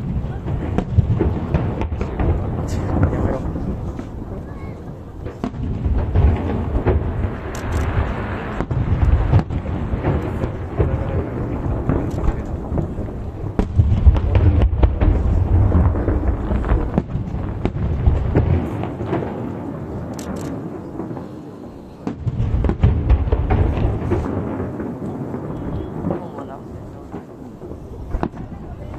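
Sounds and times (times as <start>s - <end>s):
low rumbling boom: 0.0s - 19.6s, 22.0s - 28.9s
fireworks bangs: 0.0s - 28.9s.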